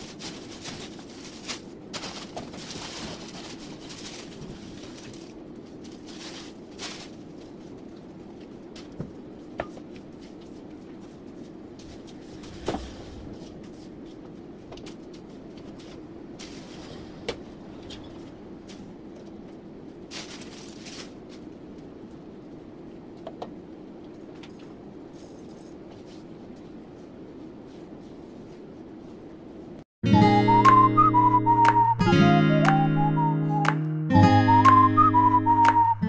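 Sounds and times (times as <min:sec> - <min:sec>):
steady room hum: 0:00.0 - 0:29.9.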